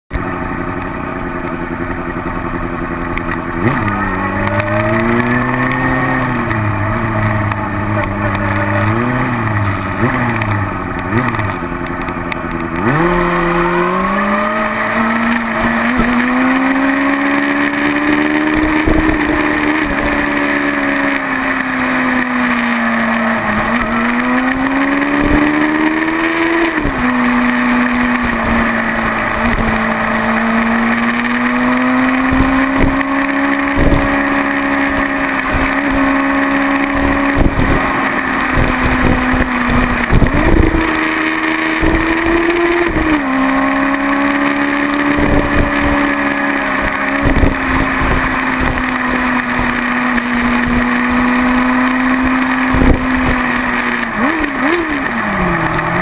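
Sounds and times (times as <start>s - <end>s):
motorcycle engine revving: 0.1s - 56.0s.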